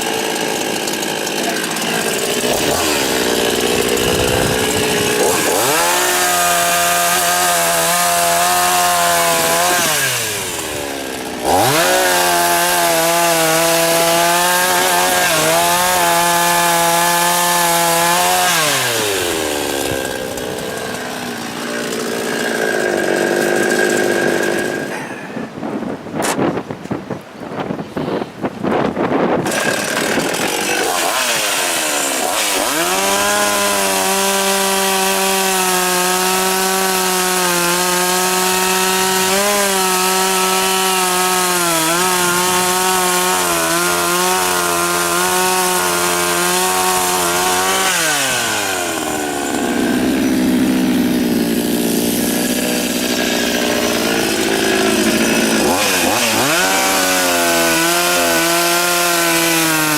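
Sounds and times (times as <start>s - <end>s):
chainsaw cutting logs: 0.0s - 26.5s, 28.6s - 59.9s.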